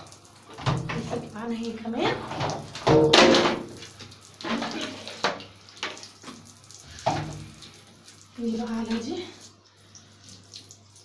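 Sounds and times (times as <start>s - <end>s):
tap water running and splashing: 0.0s - 11.0s.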